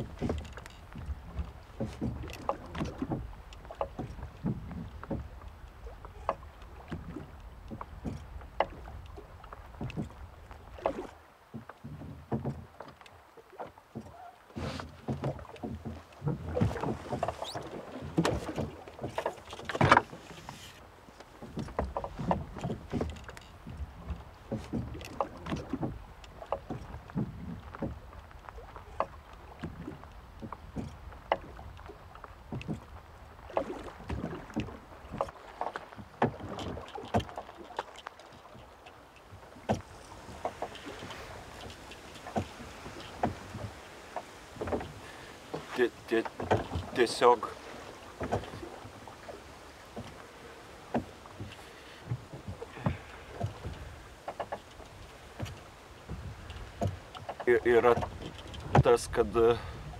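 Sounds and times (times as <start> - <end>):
boat hull knocks and creaks: 0.0 - 59.9.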